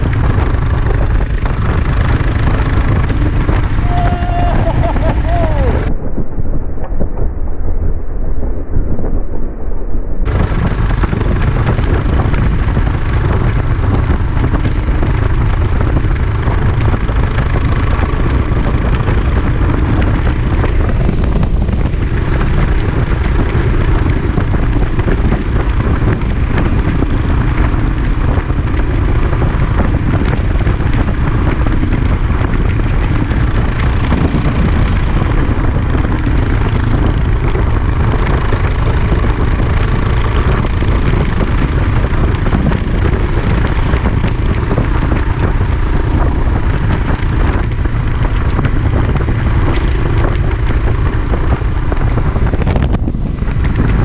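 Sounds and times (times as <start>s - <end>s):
motorcycle engine running: 0.0s - 5.9s, 10.2s - 54.0s
wind rushing over microphone: 0.0s - 54.0s.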